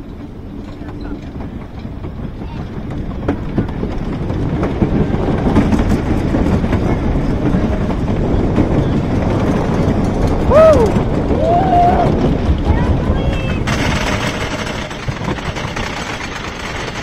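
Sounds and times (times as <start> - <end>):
roller coaster wheels clattering: 0.0 - 17.0.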